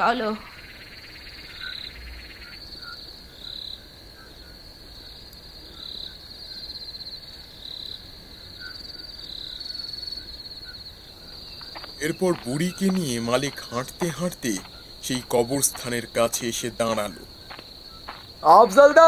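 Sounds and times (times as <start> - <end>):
crickets trilling: 0.0 - 19.0
frogs croaking: 0.0 - 19.0.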